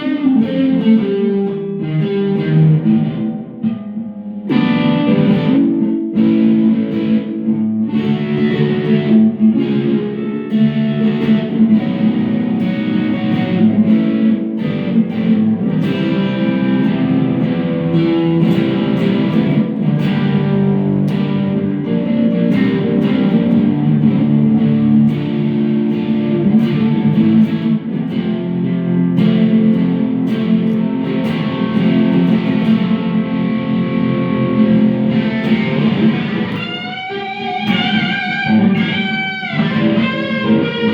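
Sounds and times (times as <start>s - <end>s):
electric guitar notes and chords: 0.0s - 40.9s.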